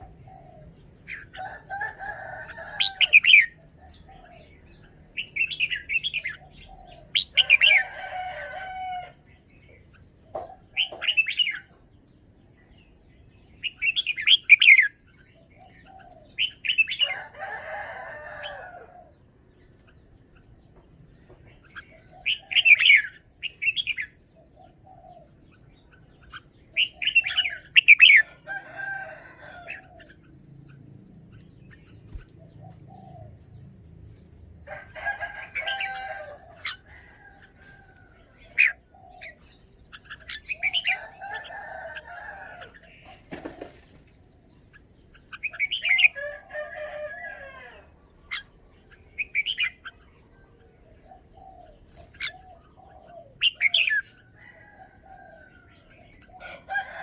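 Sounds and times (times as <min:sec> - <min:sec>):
bird singing warbled phrases: 0:00.0 - 0:57.0.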